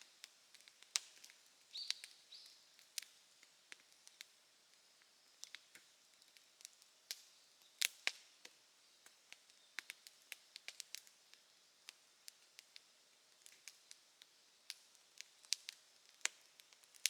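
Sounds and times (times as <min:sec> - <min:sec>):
campfire crackling and popping: 0:00.1 - 0:17.0.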